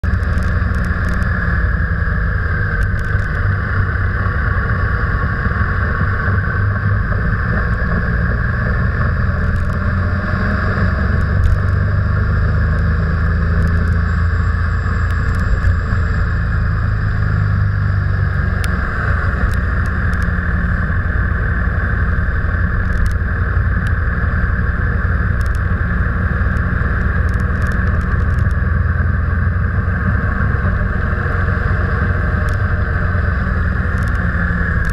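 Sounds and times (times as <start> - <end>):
car engine: 0.0 - 34.9
road noise: 0.0 - 34.9.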